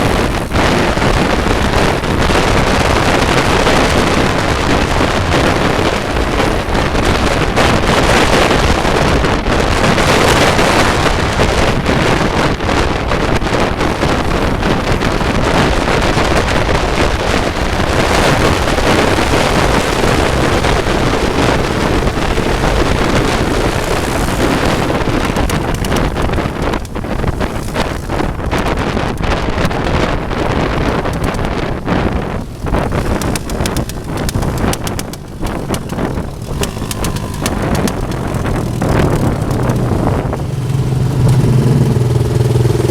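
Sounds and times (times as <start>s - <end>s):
motorcycle noise: 0.0s - 42.9s
wind buffeting microphone: 0.0s - 42.9s.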